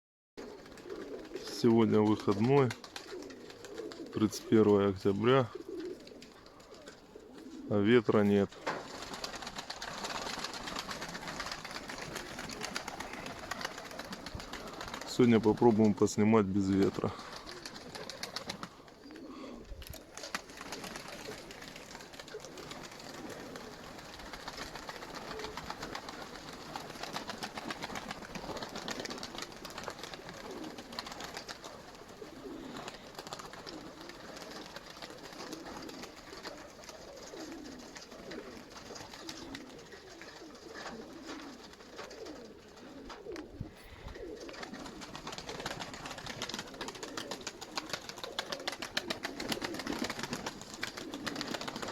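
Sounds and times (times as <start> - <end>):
pigeons cooing: 0.4 - 51.9.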